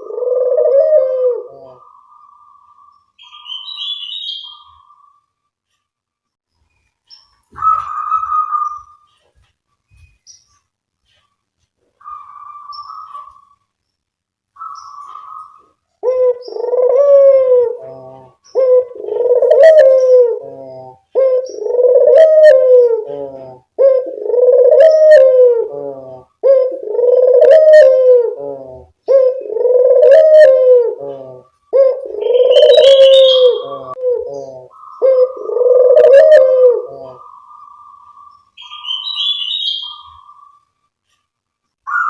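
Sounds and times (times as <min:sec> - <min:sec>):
dove cooing: 0:00.0 - 0:05.2, 0:07.5 - 0:09.0, 0:12.0 - 0:13.6, 0:14.6 - 0:40.6.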